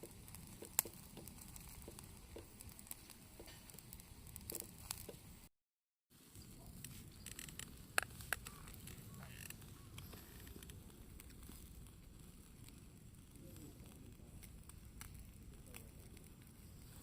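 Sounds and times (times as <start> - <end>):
charcoal fire crackling: 0.0 - 5.5, 6.2 - 17.0.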